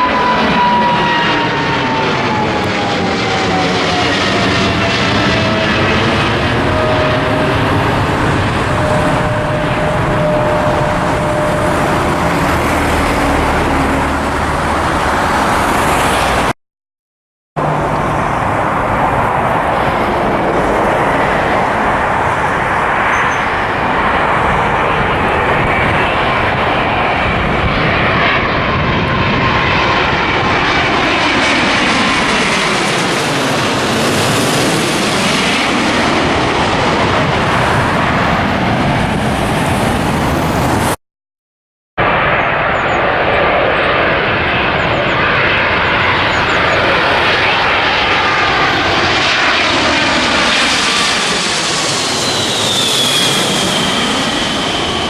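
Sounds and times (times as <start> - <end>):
jet airliner engines roaring: 0.0 - 16.6, 17.6 - 41.0, 42.0 - 55.0.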